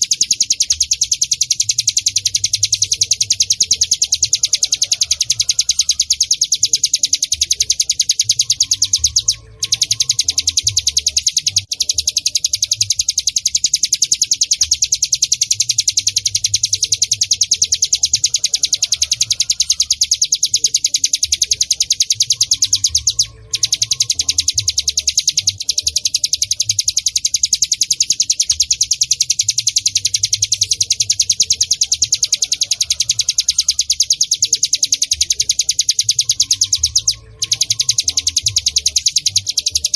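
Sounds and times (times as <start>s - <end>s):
bird chirping fast: 0.0s - 39.9s.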